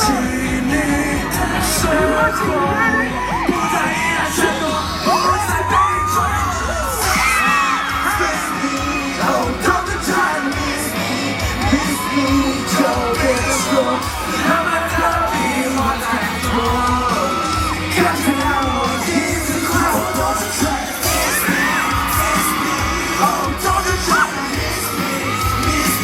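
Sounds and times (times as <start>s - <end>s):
fans yelling along: 0.0s - 26.0s
live pop music over sound system: 0.0s - 26.0s.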